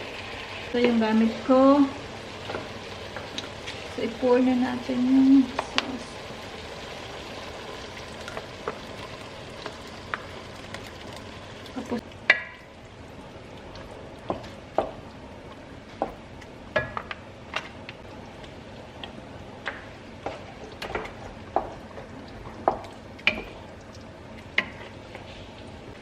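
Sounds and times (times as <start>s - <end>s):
sauce sizzling: 0.0s - 26.0s.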